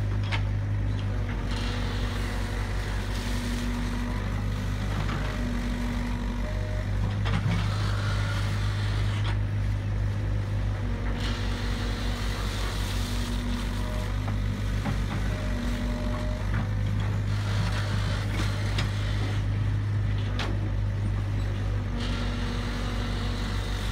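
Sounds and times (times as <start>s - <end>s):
excavator diesel engine droning: 0.0s - 23.9s
hydraulics humming: 0.0s - 23.9s.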